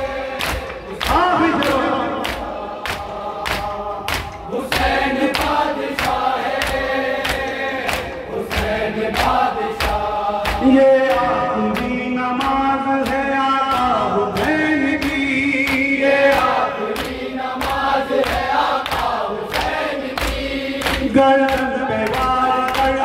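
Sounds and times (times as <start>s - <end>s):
hands slapping chests: 0.0s - 23.0s
men chanting in unison: 0.0s - 23.0s.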